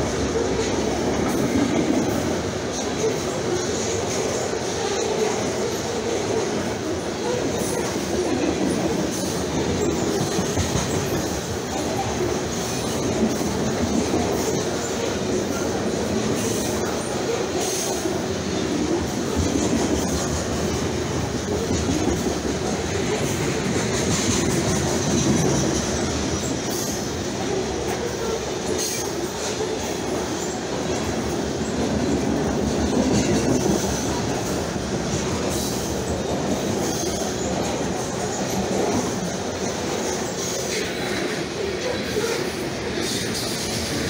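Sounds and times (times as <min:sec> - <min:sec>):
freight train rolling past: 0:00.0 - 0:44.0.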